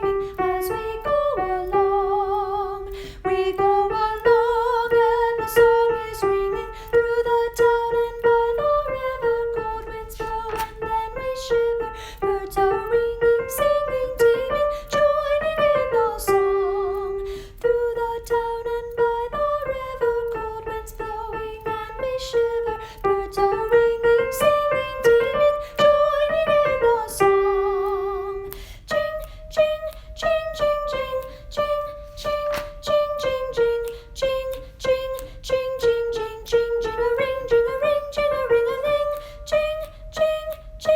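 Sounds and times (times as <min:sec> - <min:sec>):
piano accompaniment: 0:00.0 - 0:40.9
soprano voice singing: 0:00.0 - 0:40.9.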